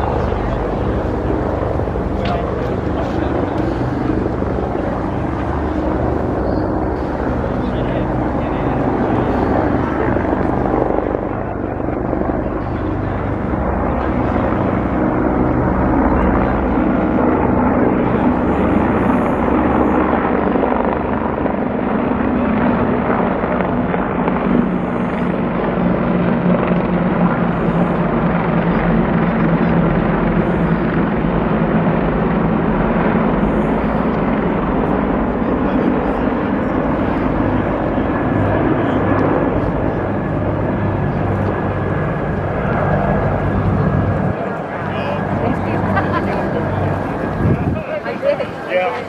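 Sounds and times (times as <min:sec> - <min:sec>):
helicopters flying overhead: 0:00.0 - 0:49.0.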